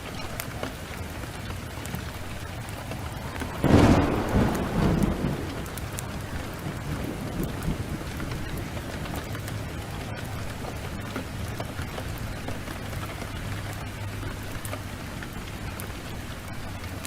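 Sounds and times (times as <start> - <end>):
heavy rain pouring: 0.0 - 17.0
sharp crackles: 0.0 - 17.0
thunderclap rumbling: 0.8 - 17.0.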